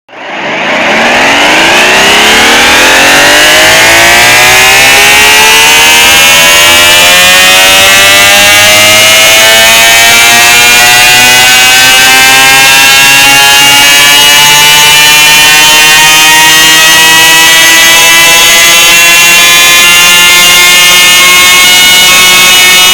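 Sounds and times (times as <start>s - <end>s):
alarm siren winding up: 0.1s - 22.9s.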